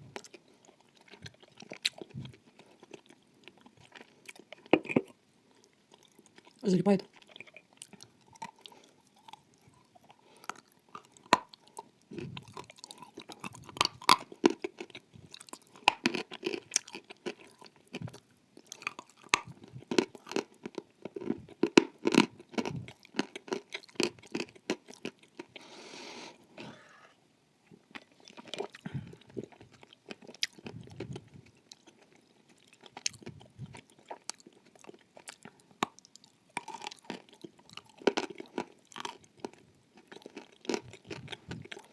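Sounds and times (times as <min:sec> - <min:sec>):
crunching and chewing: 0:00.0 - 0:25.8, 0:27.8 - 0:41.9.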